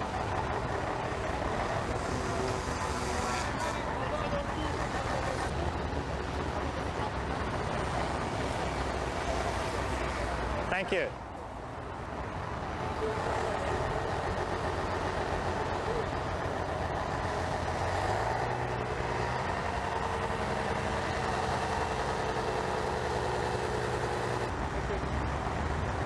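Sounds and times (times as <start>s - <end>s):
heavy vehicle engine idling: 0.0s - 26.0s
low engine tone: 0.0s - 26.0s.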